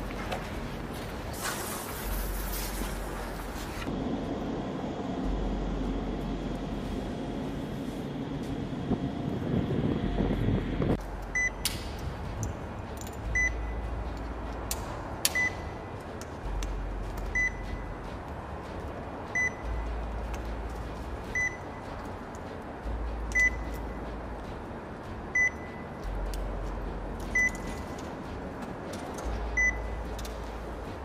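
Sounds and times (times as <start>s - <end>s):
low hum: 2.0s - 31.0s.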